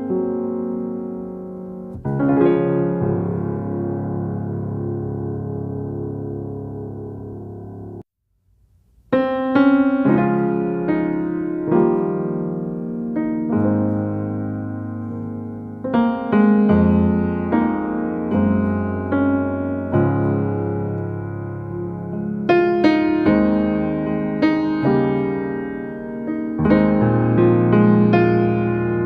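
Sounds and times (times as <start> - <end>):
piano music: 0.0 - 8.1, 9.1 - 29.0.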